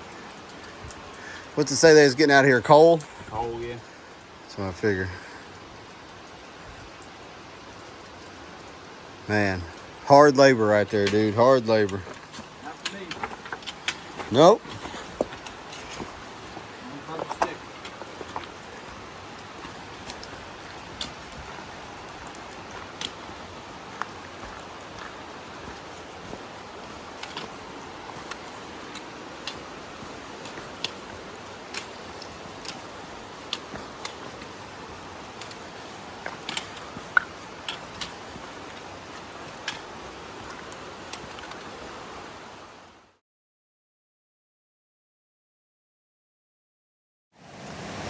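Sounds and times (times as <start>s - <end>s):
steady rushing outdoor noise: 0.0s - 43.1s, 47.4s - 48.0s.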